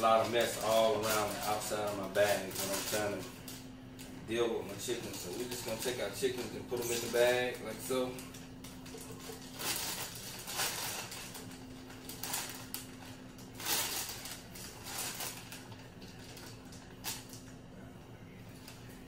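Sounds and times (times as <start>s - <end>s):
plastic bag crinkling: 0.0s - 3.7s, 4.6s - 17.5s
steady low hum: 0.0s - 19.0s.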